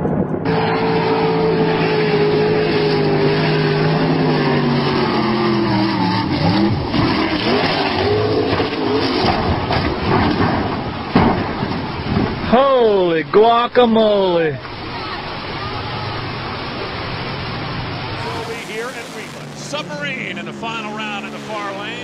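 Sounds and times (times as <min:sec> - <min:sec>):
racing boat engine running hard: 0:00.0 - 0:12.4, 0:14.7 - 0:22.0.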